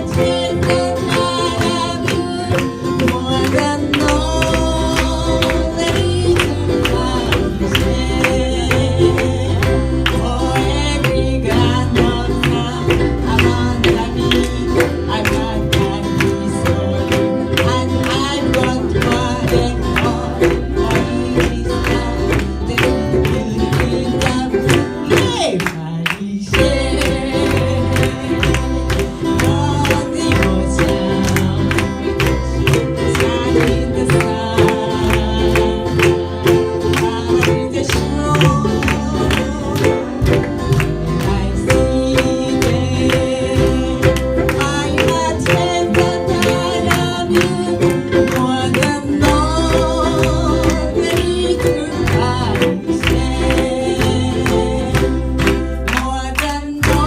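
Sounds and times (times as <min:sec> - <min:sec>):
group singing: 0:00.0 - 0:57.0
strummed guitars: 0:00.0 - 0:57.0.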